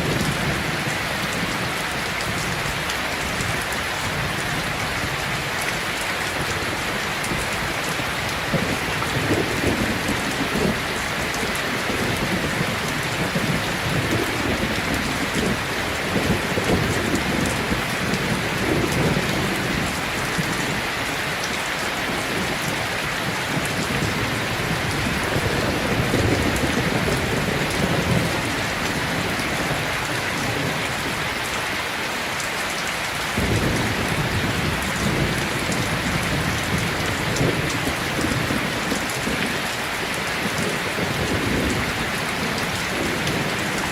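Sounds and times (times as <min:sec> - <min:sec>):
low rolling thunder: 0:00.0 - 0:05.3, 0:06.6 - 0:21.1, 0:22.0 - 0:31.2, 0:33.4 - 0:43.9
steady rain falling: 0:00.0 - 0:43.9.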